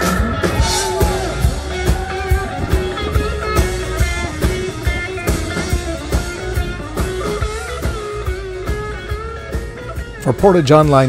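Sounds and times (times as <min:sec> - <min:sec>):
rock music with guitar and beat: 0:00.0 - 0:11.0.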